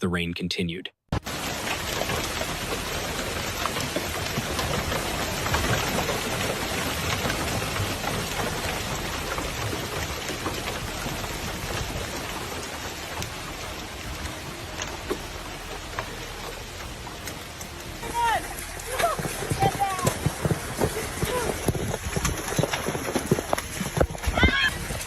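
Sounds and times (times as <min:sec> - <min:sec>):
heavy rain on hard surfaces: 0:01.1 - 0:25.0.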